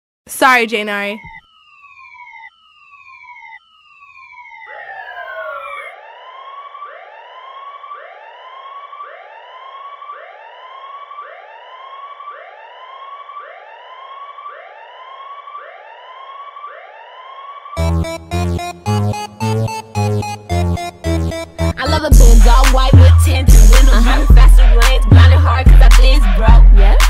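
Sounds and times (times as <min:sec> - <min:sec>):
siren-like whooping: 0:00.5 - 0:27.0.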